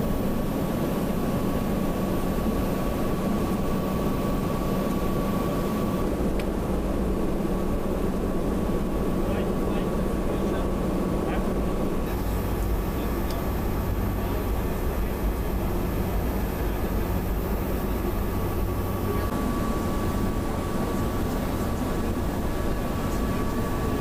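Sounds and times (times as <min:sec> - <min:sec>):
aircraft engine and airflow drone: 0:00.0 - 0:24.0
faint steady whine: 0:00.0 - 0:24.0.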